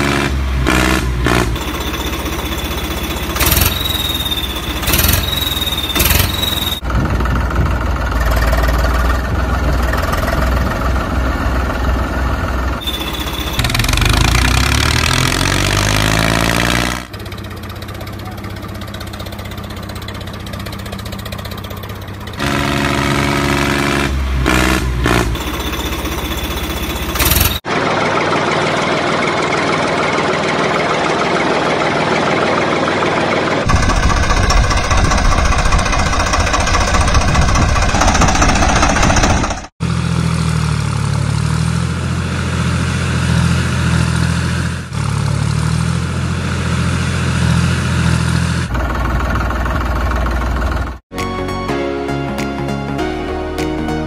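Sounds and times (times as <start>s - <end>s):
tractor engine running and revving: 0.0s - 51.1s.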